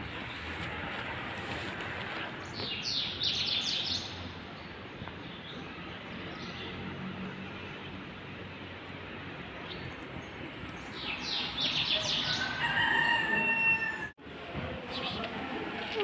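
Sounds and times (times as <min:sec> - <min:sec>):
outdoor street noise: 0:00.0 - 0:16.0.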